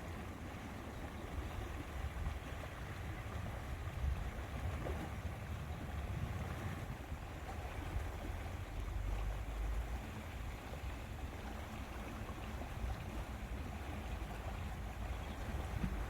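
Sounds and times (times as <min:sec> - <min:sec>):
small waves lapping: 0:00.0 - 0:16.0
wind rumbling on microphone: 0:00.0 - 0:16.0.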